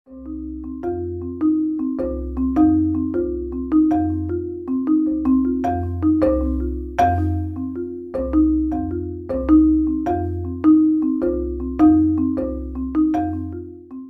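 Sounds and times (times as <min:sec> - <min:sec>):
melody of short struck notes: 0:00.1 - 0:14.0.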